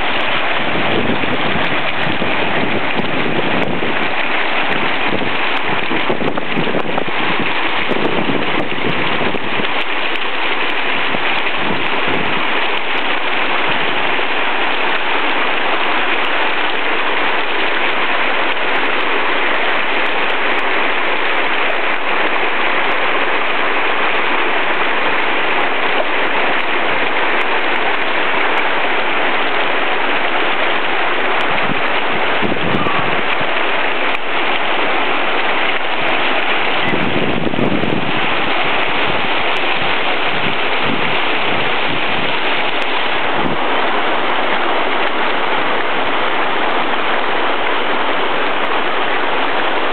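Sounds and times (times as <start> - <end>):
stream rushing over boulders: 0.0 - 49.9.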